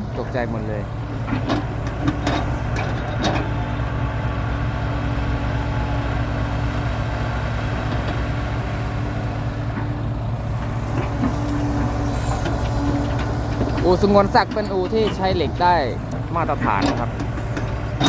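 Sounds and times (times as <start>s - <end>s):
dump truck engine running: 0.0s - 18.0s.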